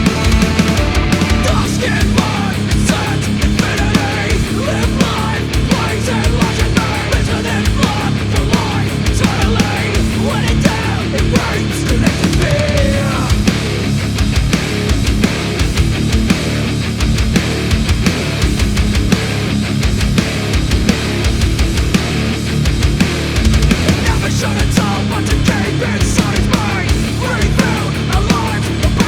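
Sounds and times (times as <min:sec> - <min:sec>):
distorted guitars and bass: 0:00.0 - 0:29.0
fast dense drumming: 0:00.0 - 0:29.0.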